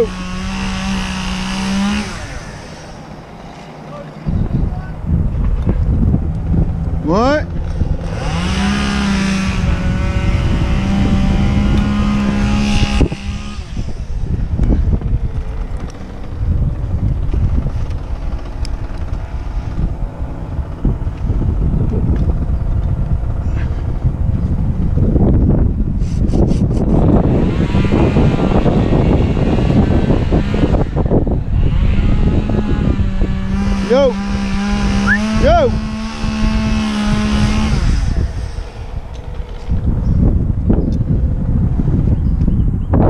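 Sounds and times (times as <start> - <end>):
chainsaw at full throttle: 0.0 - 4.1, 6.0 - 26.0, 26.6 - 40.4
wind on microphone: 0.0 - 43.0.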